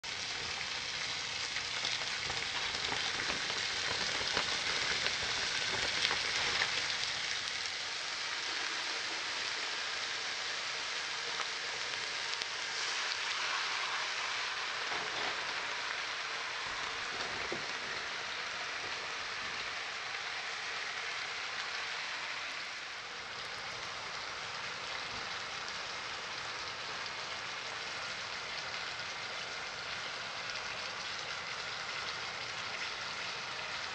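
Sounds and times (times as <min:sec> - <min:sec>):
chicken sizzling in hot oil: 0:00.0 - 0:33.9
faint crackles: 0:00.3 - 0:33.9.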